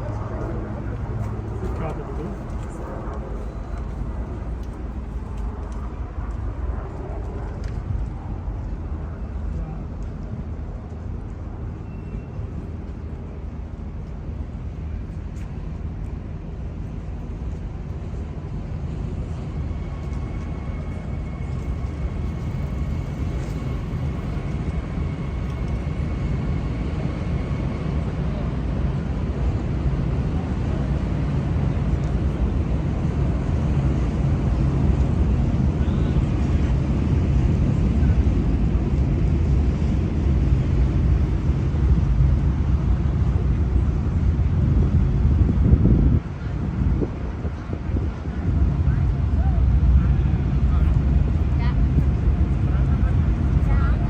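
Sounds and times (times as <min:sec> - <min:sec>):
low engine rumble: 0:00.0 - 0:54.0.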